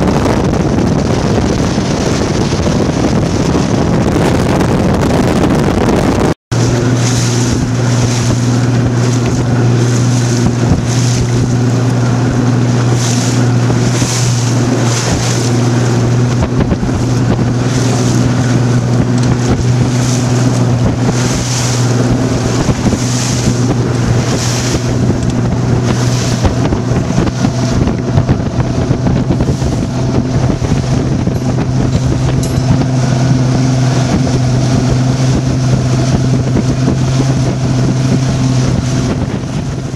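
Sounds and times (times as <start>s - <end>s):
boat engine hum: 0.0s - 39.9s
water rushing past hull: 0.0s - 39.9s
wind buffeting microphone: 0.0s - 39.9s.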